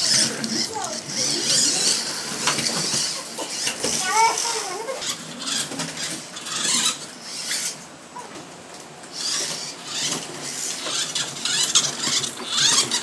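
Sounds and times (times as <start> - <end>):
model car motor whine: 0.0 - 7.9, 9.1 - 13.0.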